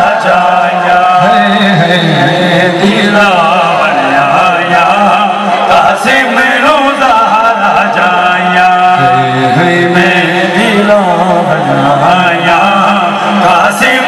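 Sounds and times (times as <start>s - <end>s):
man chanting over loudspeakers: 0.0s - 14.0s.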